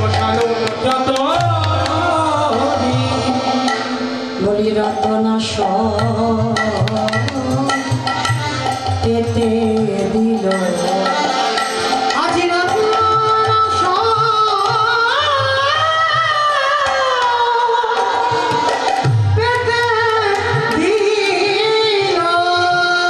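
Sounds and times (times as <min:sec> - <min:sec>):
woman singing devotional song: 0:00.0 - 0:08.1, 0:08.8 - 0:11.6, 0:12.2 - 0:23.0
hand drum: 0:00.0 - 0:23.0.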